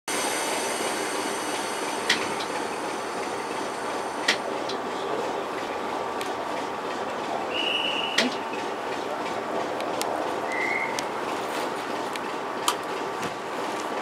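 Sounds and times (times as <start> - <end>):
train rumble and hiss: 0.1 - 14.0.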